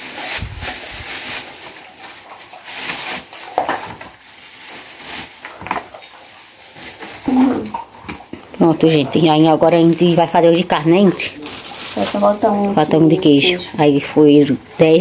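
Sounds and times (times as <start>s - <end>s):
plastic bags rustling: 0.0s - 8.0s, 8.9s - 15.0s.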